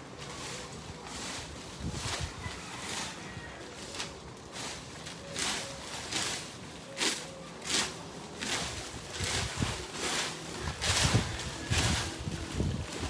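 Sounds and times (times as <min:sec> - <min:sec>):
broom sweeping dry leaves: 0:00.0 - 0:13.0.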